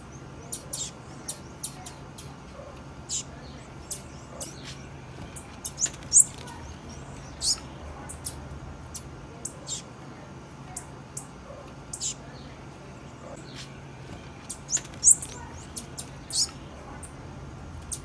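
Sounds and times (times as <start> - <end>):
bird chipping calls: 0.0 - 9.9, 10.8 - 12.5, 13.1 - 17.2
faint low hum: 0.0 - 18.0.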